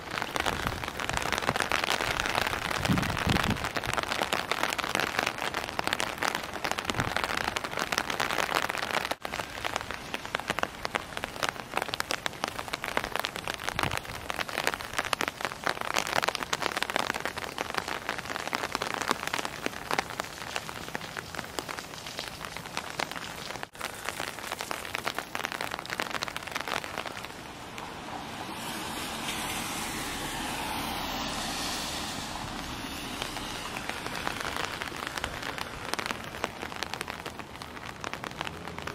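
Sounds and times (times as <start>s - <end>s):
car tyres on wet road: 0.0s - 38.9s
rain pattering: 0.0s - 38.9s.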